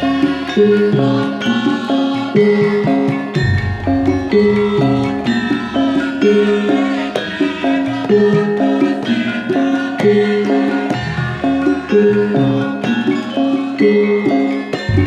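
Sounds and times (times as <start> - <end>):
hand drum beating: 0.0 - 13.7, 14.7 - 15.0
gamelan metallophone melody: 0.0 - 15.0.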